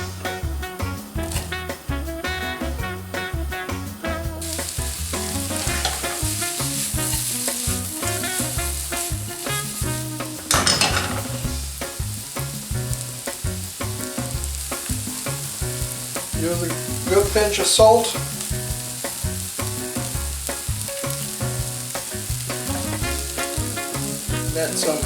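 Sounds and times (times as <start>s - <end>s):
onions sizzling in a pan: 1.2s - 2.0s, 4.4s - 25.0s.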